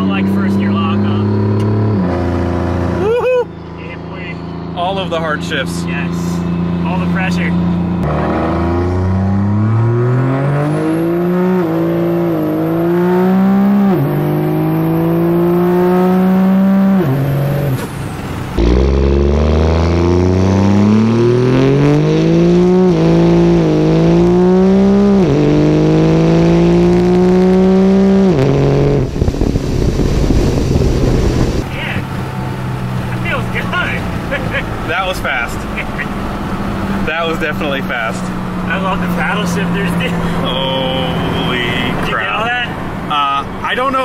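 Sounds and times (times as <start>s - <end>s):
diesel pickup engine accelerating: 0.0s - 44.0s
transmission upshifts: 0.0s - 44.0s.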